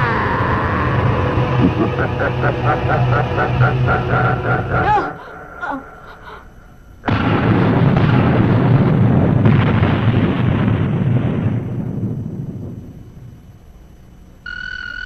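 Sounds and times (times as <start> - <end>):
loud deep blast: 0.0 - 6.3, 7.0 - 13.4.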